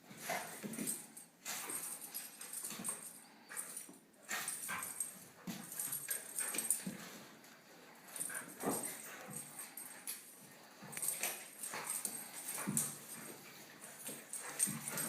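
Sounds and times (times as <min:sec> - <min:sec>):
dogs scuffling: 0:00.0 - 0:15.0.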